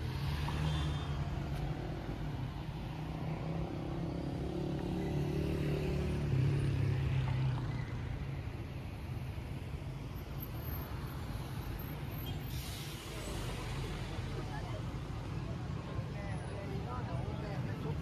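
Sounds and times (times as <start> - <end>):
car engines in slow traffic: 0.0 - 18.0.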